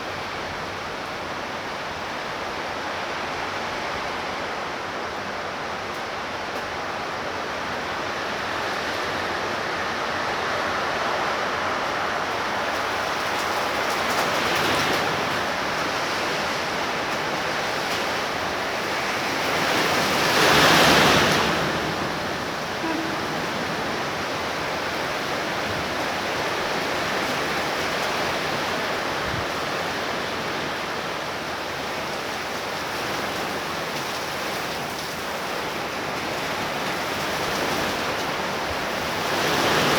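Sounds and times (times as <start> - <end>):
torrential rain hissing: 0.0 - 39.9.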